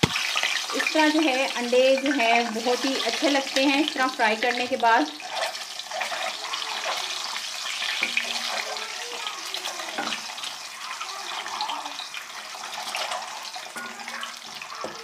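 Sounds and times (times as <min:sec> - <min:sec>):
eggs sizzling in hot fat: 0:00.0 - 0:15.0.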